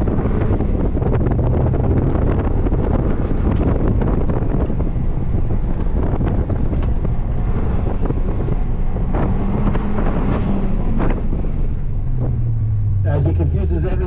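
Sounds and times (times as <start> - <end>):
wind buffeting on microphone: 0.0 - 13.0
car engine driven hard: 0.0 - 14.0.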